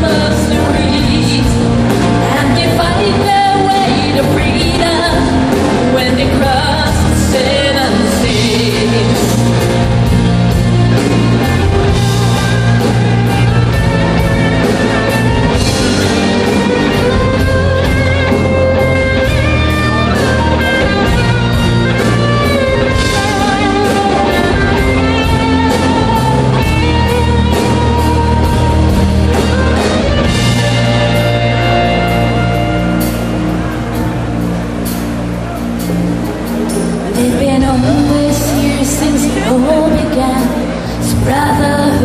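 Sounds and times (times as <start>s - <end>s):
bass and drums: 0.0s - 42.0s
lead guitar melody: 0.0s - 42.0s.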